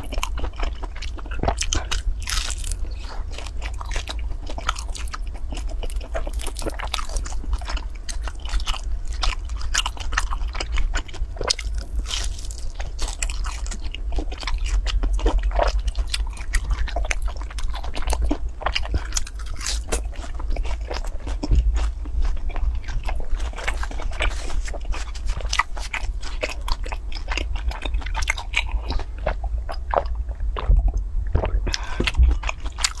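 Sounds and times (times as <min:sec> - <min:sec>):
close chewing with mouth clicks: 0:00.0 - 0:33.0.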